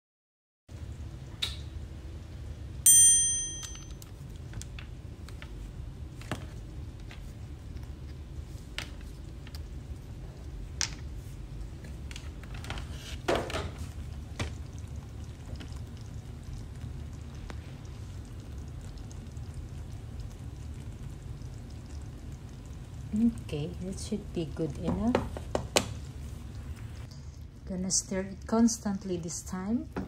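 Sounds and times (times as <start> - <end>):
steady low hum: 0.7 - 30.0.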